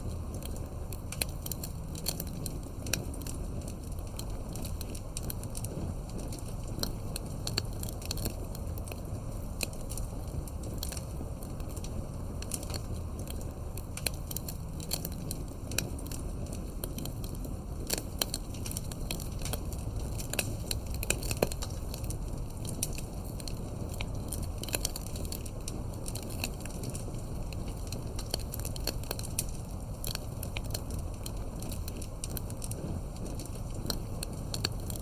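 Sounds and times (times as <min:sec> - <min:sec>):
fire crackling and popping: 0:00.0 - 0:35.0
flames rumbling: 0:00.0 - 0:35.0.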